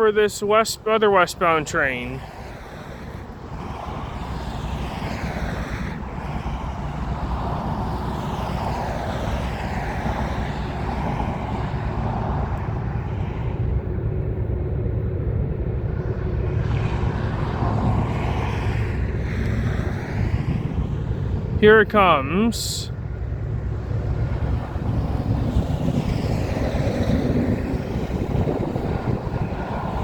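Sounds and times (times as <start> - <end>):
distant freight train rumble: 0.0 - 30.0.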